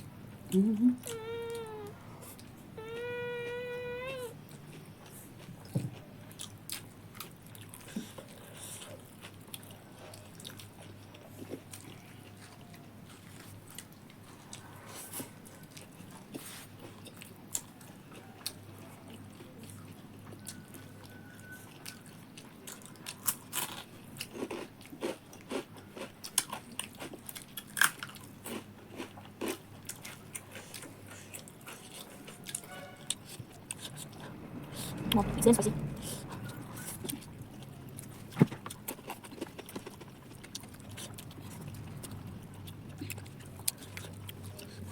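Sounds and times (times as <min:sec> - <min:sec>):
crunchy food chewing: 0:00.6 - 0:35.0, 0:36.3 - 0:44.9.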